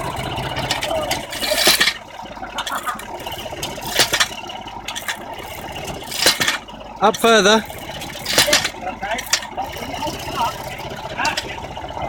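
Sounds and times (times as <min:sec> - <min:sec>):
engine running: 0:00.0 - 0:12.0
metal hammer clanking and scraping: 0:00.6 - 0:11.6.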